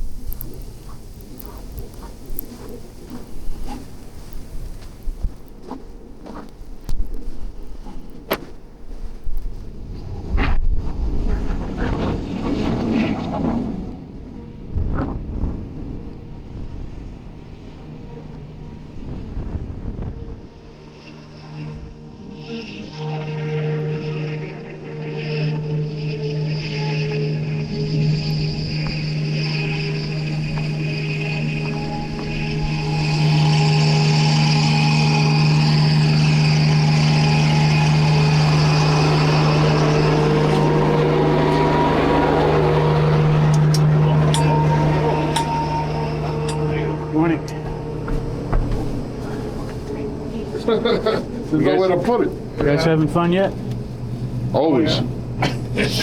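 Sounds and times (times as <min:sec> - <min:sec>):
blizzard wind buffeting microphone: 0:00.0 - 0:22.4, 0:27.3 - 0:55.7
engine humming: 0:00.0 - 0:56.0.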